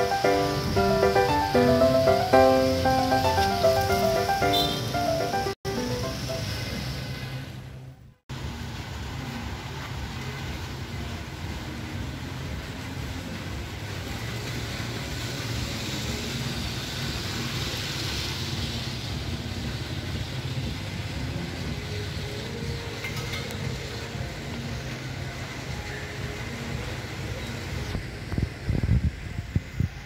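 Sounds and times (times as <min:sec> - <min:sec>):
low rumble of traffic: 0:00.0 - 0:30.0
tyre hiss on wet road: 0:00.0 - 0:30.0.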